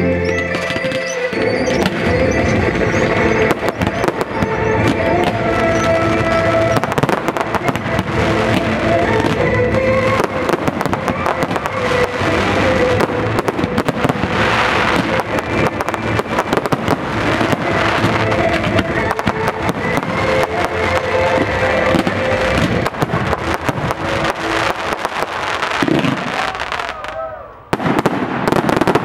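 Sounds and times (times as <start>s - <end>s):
music with sustained notes: 0.0s - 26.8s
firework bangs and crackles: 0.5s - 29.0s.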